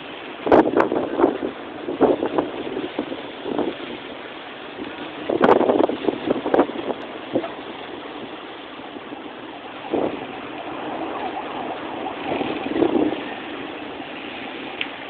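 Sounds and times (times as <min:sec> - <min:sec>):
heavy hail rattling: 0:00.0 - 0:15.0.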